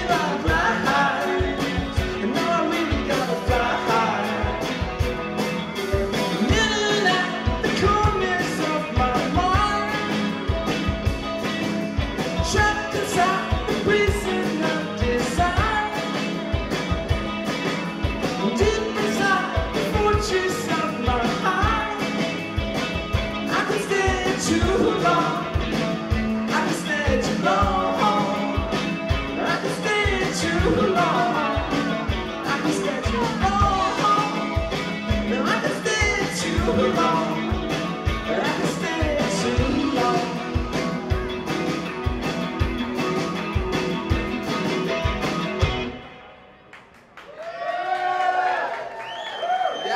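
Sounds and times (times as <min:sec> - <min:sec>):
drum kit beat: 0:00.0 - 0:46.1
electric guitar playing: 0:00.0 - 0:46.8.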